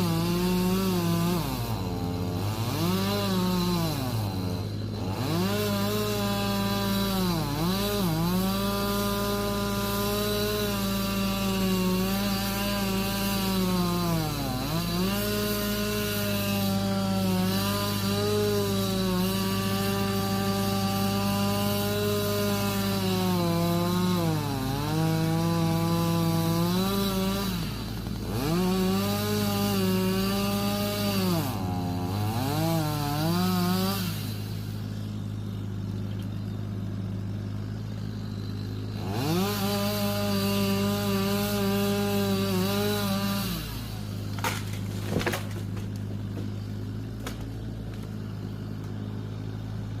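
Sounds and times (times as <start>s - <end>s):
chainsaw cutting wood: 0.0s - 50.0s
low diesel engine hum: 0.0s - 50.0s.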